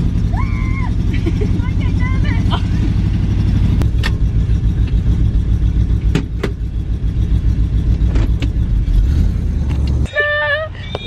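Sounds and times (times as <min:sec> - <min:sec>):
car engine rumbling inside cabin: 0:00.0 - 0:11.0.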